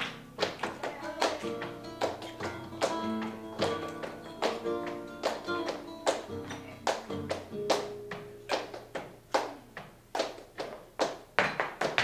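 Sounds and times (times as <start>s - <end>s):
dancer's footwork strikes: 0.0s - 12.0s
flamenco guitar: 0.0s - 12.0s
hand-clapping: 0.0s - 12.0s.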